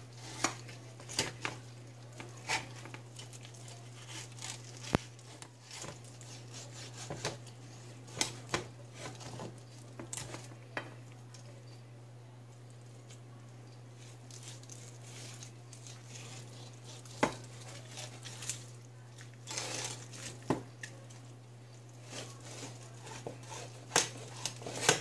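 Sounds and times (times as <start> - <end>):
steady low hum: 0.0 - 25.0
meat tearing and rustling: 0.1 - 10.6, 13.9 - 25.0.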